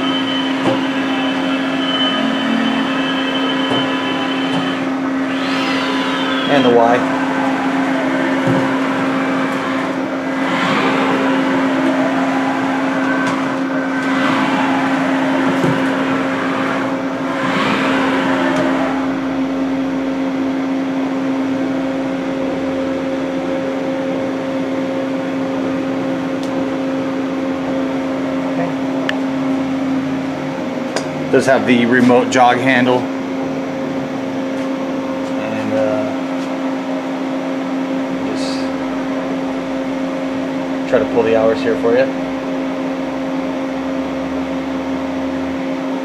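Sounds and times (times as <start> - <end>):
axis drive whining: 0.0 - 46.0
machine steady hum: 0.0 - 46.0.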